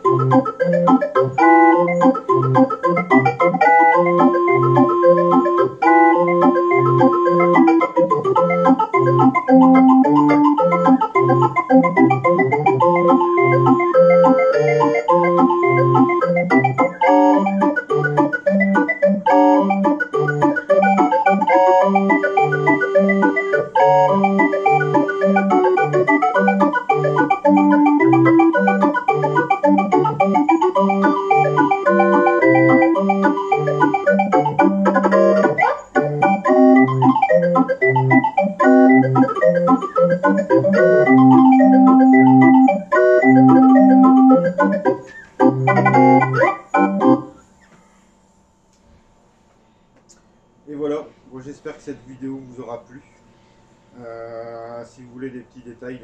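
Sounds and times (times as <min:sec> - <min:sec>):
barrel organ playing a tune: 0:00.0 - 0:47.5.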